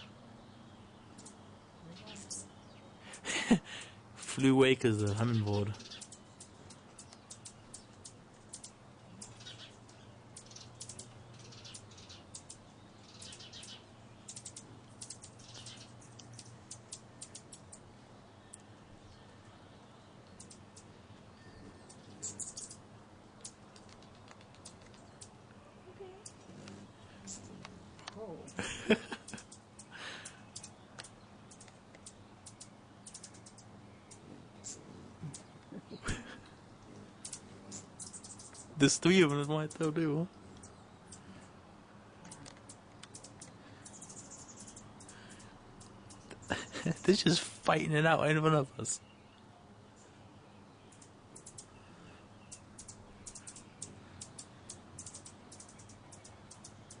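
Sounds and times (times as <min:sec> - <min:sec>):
hummingbird chip calls: 0:00.0 - 0:57.0.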